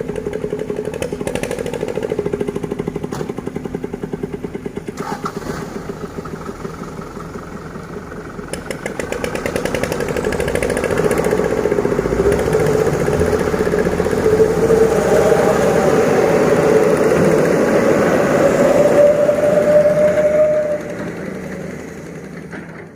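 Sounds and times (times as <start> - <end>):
heavy diesel engine running: 0.0 - 22.9.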